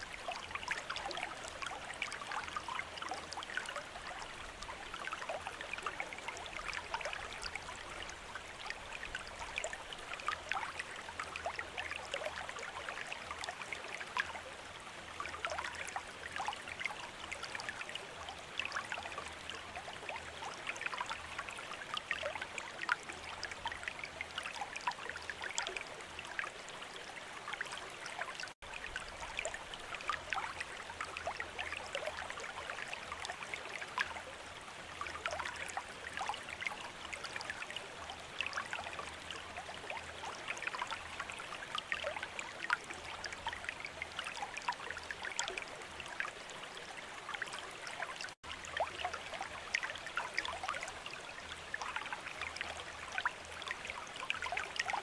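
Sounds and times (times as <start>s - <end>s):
water trickling into a basin: 0.0s - 55.0s.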